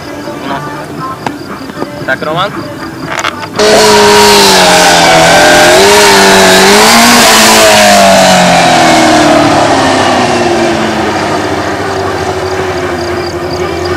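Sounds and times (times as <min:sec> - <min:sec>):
motorcycle engine revving: 0:02.7 - 0:13.9.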